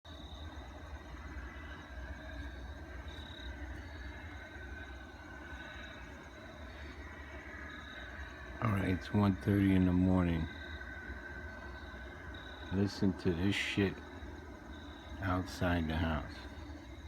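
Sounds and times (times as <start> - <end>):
pulsing insect chirps: 0.1 - 17.0
steady low rumble: 0.1 - 17.0.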